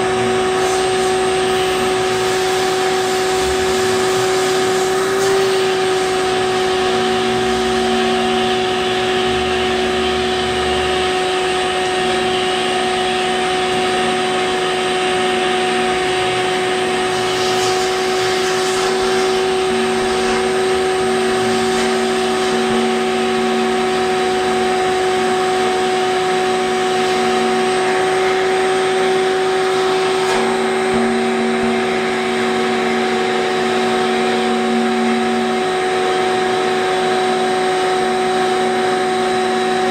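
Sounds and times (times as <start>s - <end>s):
motor humming steadily: 0.0s - 39.9s.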